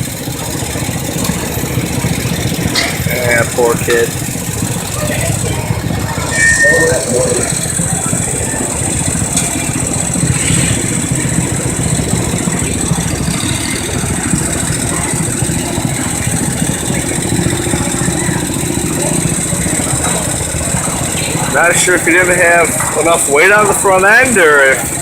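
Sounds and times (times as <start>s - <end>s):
garden tractor engine idling: 0.0s - 25.0s.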